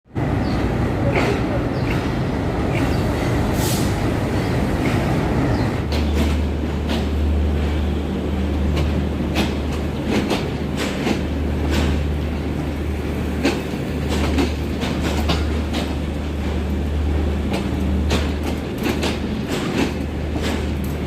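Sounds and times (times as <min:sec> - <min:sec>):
train rumbling on rails: 0:00.1 - 0:21.0
wheels clicking over rail joints: 0:00.4 - 0:03.4, 0:04.3 - 0:07.9, 0:08.5 - 0:21.0.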